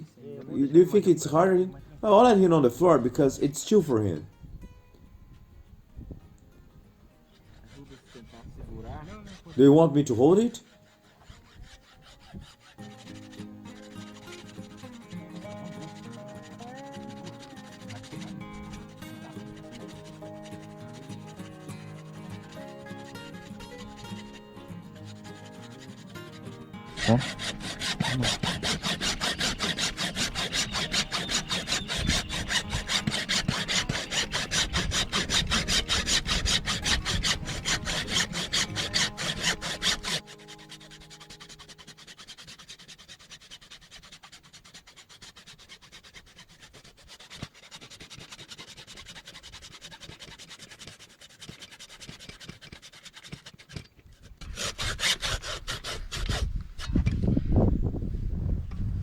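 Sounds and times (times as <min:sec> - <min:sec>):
saw cutting through hoof: 0:07.3 - 0:57.4.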